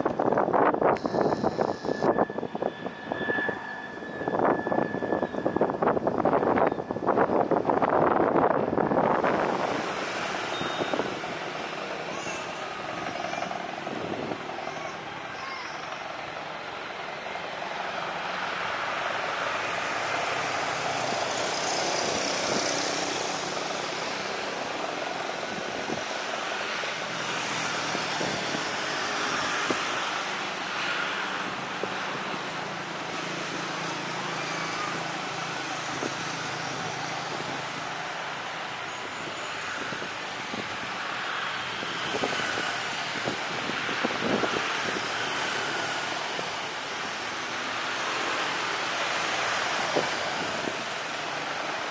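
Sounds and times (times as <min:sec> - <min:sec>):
wind hiss: 0:00.0 - 0:14.8, 0:17.9 - 0:51.9
aircraft engine: 0:00.0 - 0:51.9.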